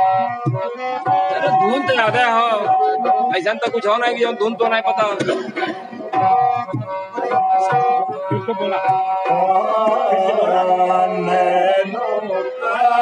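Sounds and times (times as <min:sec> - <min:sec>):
harmonium playing a tune: 0:00.0 - 0:13.0.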